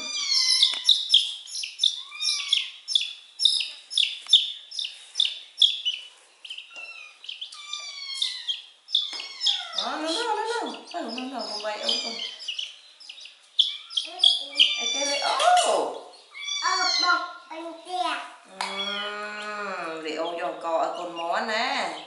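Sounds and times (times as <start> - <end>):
baby chick peeping: 0.0 - 22.0.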